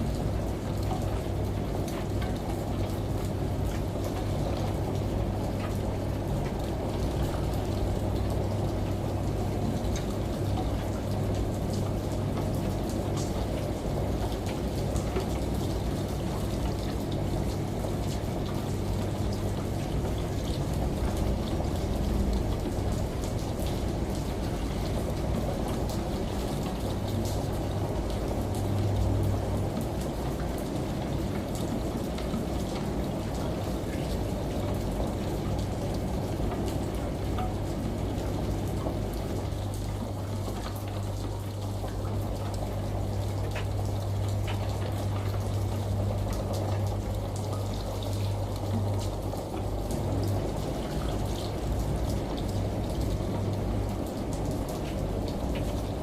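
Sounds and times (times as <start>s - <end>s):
rain pattering: 0.0s - 56.0s
shower water running: 0.0s - 56.0s
washing machine humming: 0.0s - 56.0s.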